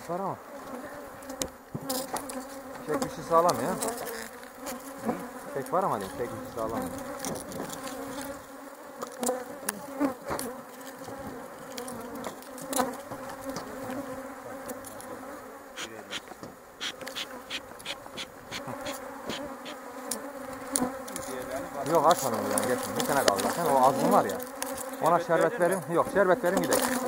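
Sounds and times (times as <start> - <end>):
honeybees buzzing: 0.1 - 27.0.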